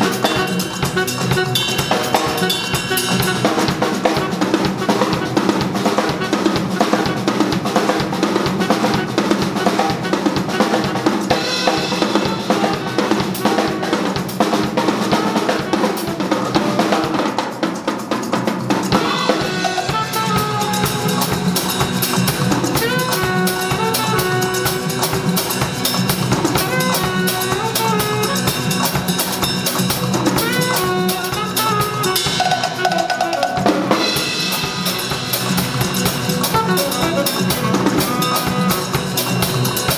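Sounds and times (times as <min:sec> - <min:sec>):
saxophone melody: 0:00.0 - 0:17.7, 0:19.0 - 0:39.9
fast jazz drumming: 0:00.0 - 0:39.9.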